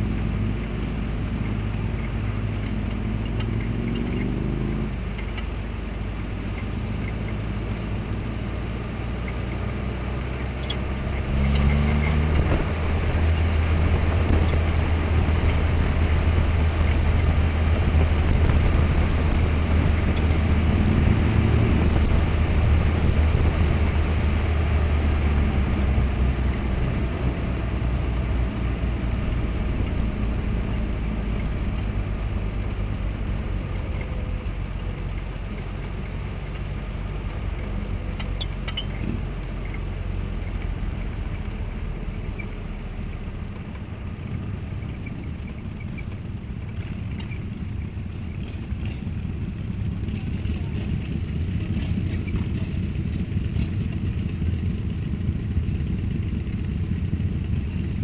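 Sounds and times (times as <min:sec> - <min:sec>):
motorcycle engines rumbling: 0:00.0 - 0:58.0.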